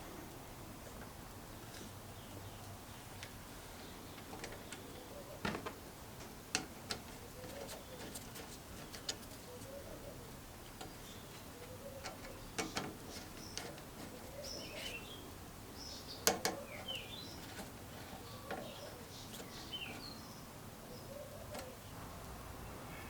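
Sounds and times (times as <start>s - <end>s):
small birds chirping: 1.5s - 5.5s, 7.1s - 23.0s.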